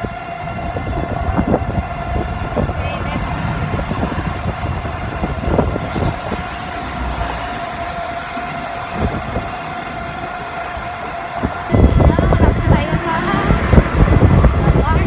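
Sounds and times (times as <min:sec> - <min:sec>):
motorized tricycle humming: 0:00.0 - 0:15.0
wind rumbling on microphone: 0:00.0 - 0:15.0.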